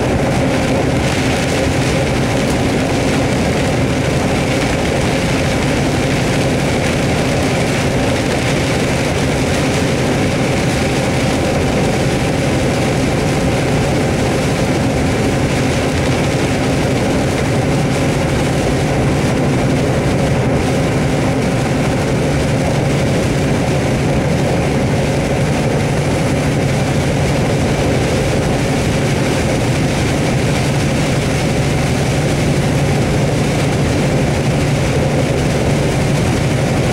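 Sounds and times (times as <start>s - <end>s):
rain hitting car body: 0.0s - 36.9s
vehicle engine and tyre drone: 0.0s - 36.9s.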